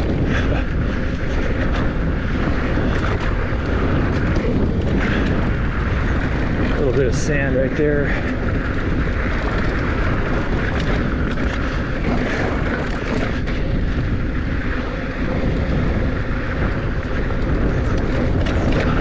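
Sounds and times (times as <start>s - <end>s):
bike rattling and clicking: 0.0s - 19.0s
bike tyres on dirt: 0.0s - 19.0s
wind on microphone: 0.0s - 19.0s.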